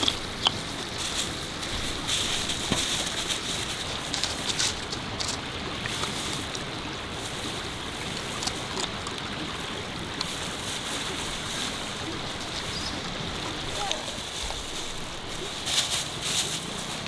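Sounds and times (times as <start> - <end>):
water hissing: 0.0 - 17.0.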